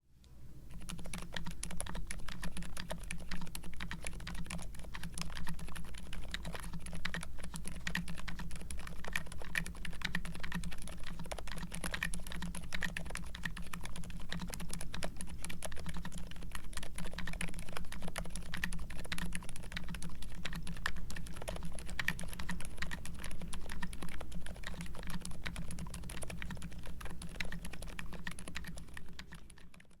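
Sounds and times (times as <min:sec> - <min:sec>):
fast typing on mechanical keyboard: 0:00.7 - 0:30.0.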